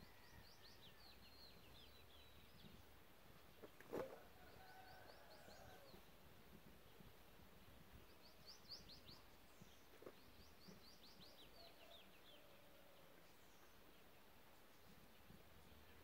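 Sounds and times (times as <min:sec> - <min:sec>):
bird chirping: 0:00.0 - 0:06.1, 0:06.9 - 0:16.0
faint outdoor ambience: 0:00.0 - 0:16.0.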